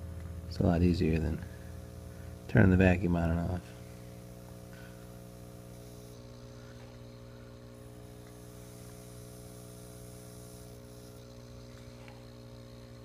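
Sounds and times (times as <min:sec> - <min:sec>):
air pump humming: 0:00.0 - 0:13.0.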